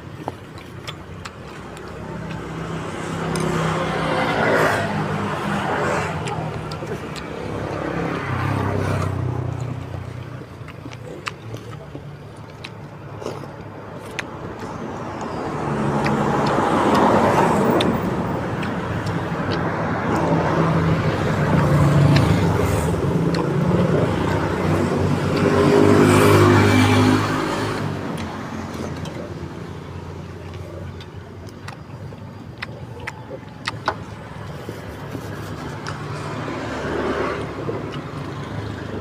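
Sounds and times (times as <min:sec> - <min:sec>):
vehicles passing: 0:00.0 - 0:39.0.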